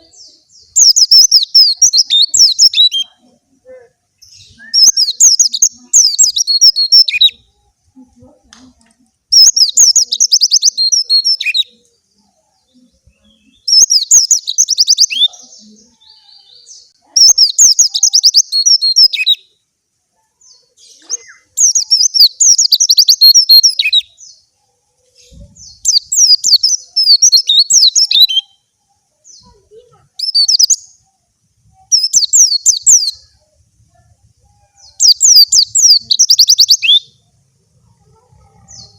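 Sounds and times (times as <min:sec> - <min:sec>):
bird twittering song: 0:00.0 - 0:03.4, 0:04.2 - 0:07.8, 0:09.3 - 0:19.6, 0:20.4 - 0:38.9.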